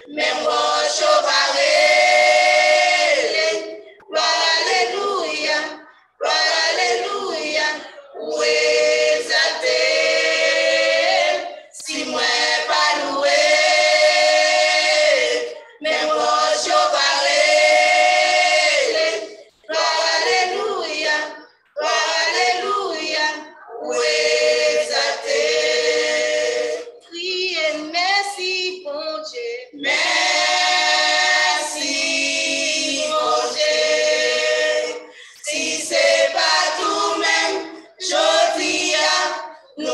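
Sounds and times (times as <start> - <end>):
choir singing unaccompanied: 0.0 - 28.5, 29.2 - 39.9.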